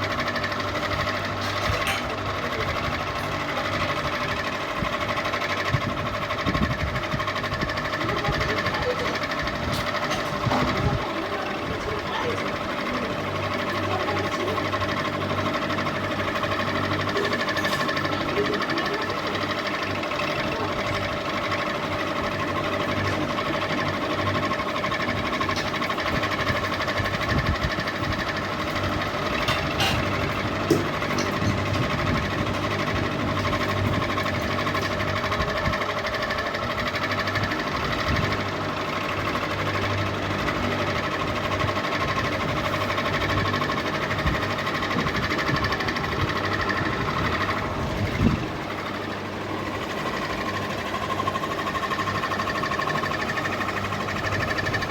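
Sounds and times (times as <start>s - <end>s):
ceiling fan whine: 0.0s - 54.9s.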